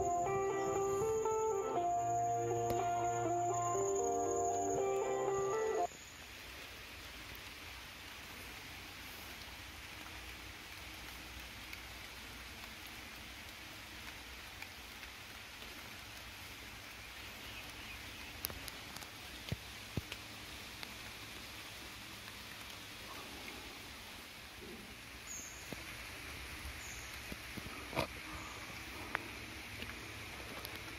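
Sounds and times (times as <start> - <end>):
rain falling on leaves: 0.0 - 30.9.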